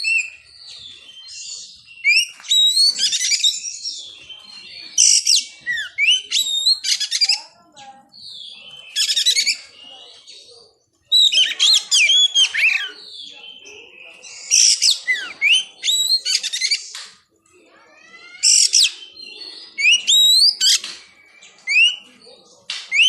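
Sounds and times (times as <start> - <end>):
songbird singing whistles and chatter: 0.0 - 23.0.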